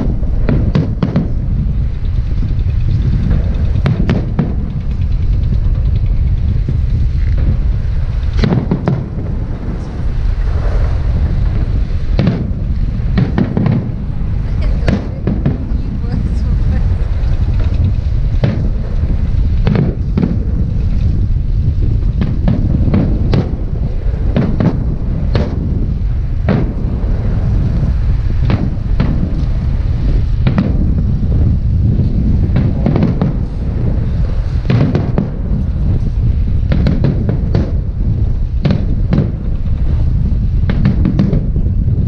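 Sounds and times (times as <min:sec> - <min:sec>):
fireworks booming: 0:00.0 - 0:42.0
fireworks cracks and pops: 0:00.0 - 0:42.0.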